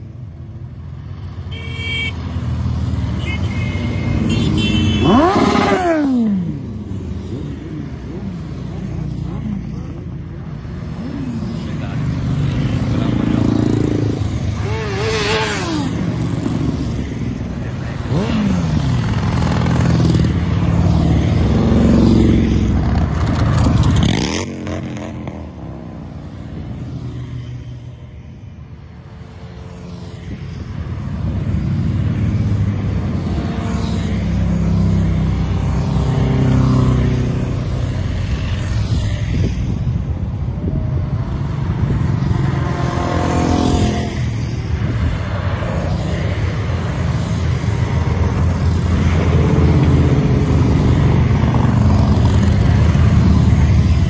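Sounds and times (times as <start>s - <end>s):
motorcycles riding past: 0.2s - 54.0s.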